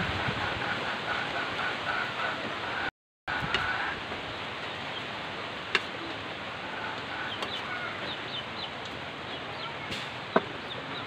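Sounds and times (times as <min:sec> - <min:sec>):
chickens clucking and peeping: 0:00.1 - 0:11.0.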